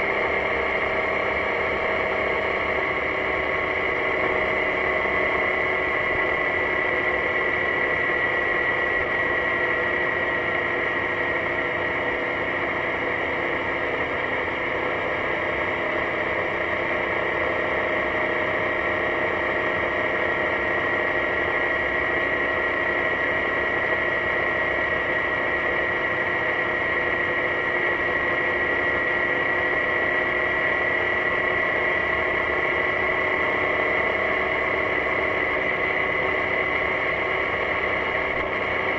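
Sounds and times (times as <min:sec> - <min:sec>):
scooter engine drone: 0:00.0 - 0:38.9.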